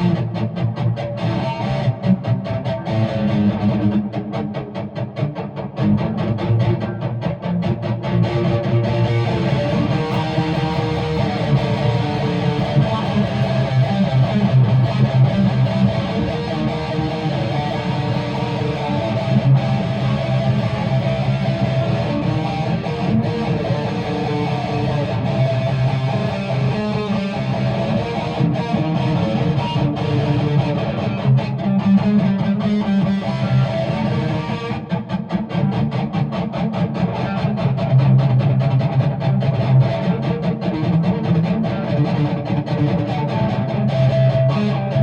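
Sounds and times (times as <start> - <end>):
guitar strumming chords: 0.0 - 45.0.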